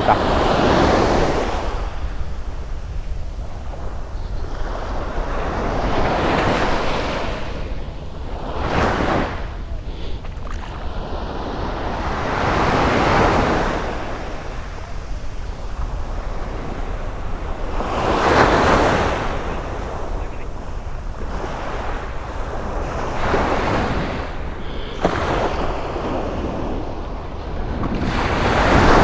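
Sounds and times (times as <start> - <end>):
sea waves washing on shore: 0.0 - 29.0
wind on microphone: 0.0 - 29.0.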